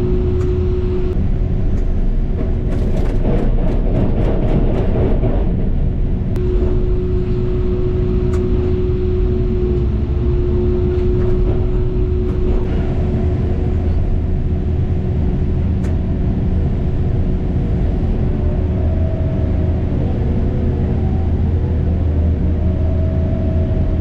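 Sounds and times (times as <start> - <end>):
steady humming tone: 0.0 - 2.7, 6.3 - 24.0
heavy machine engine rumbling: 0.0 - 24.0.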